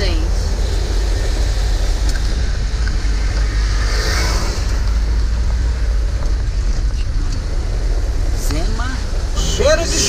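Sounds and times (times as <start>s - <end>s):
van engine and road rumble: 0.0s - 10.0s.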